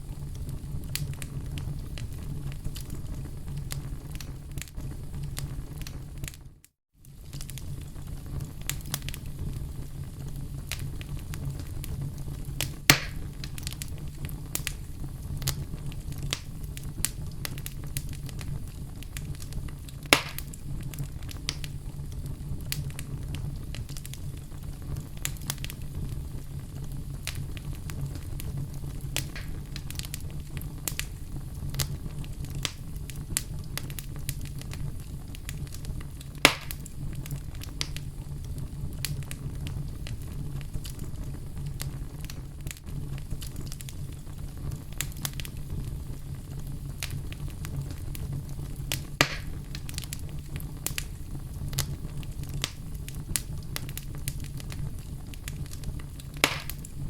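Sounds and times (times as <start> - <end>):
campfire rumble: 0.0 - 57.0
fire crackling: 0.0 - 57.0
loud fire pops: 0.0 - 57.0.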